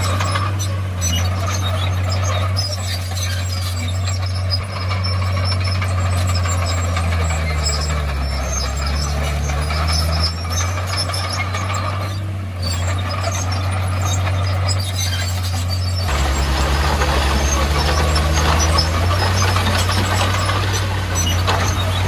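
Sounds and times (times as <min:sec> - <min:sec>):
bulldozer diesel engine drone: 0:00.0 - 0:22.0.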